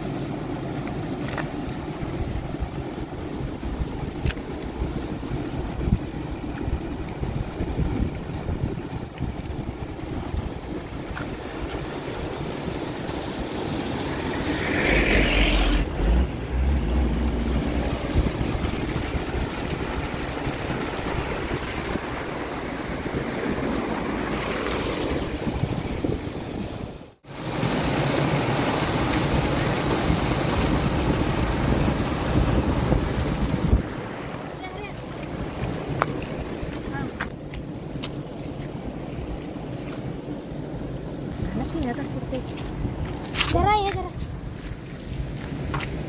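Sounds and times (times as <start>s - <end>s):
stream rushing over rocks: 0.0s - 46.0s
wind rumbling on microphone: 1.1s - 46.0s.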